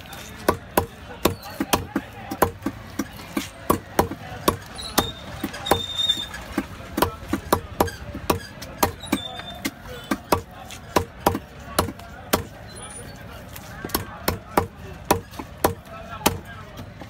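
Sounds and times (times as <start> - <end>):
knife chopping fish on wood: 0.4 - 12.6, 13.8 - 16.5.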